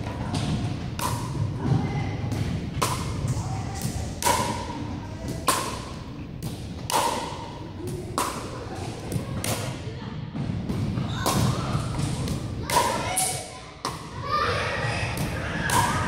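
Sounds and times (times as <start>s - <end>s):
paddles hitting pickleball: 0.0s - 9.8s, 10.6s - 14.2s.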